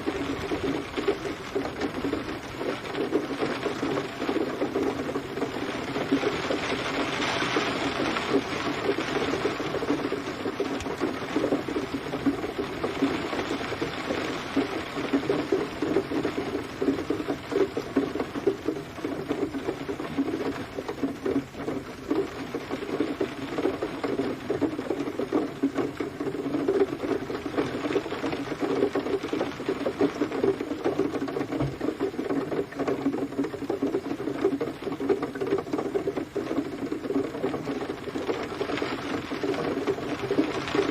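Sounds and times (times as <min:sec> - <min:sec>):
steady rain pattering: 0:00.0 - 0:40.9.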